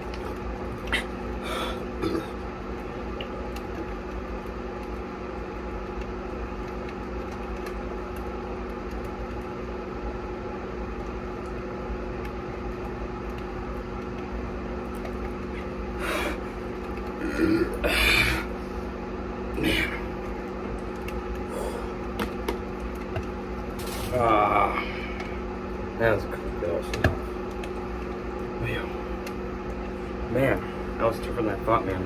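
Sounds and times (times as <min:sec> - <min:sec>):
microwave oven humming: 0:00.0 - 0:32.0.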